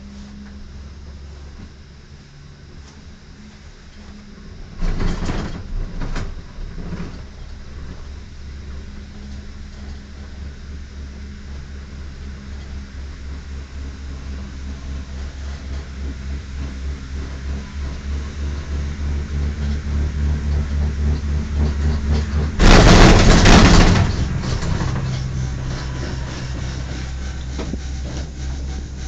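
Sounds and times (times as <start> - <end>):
cable car hum: 0.0 - 29.0
loud rattling rumble: 0.0 - 29.0.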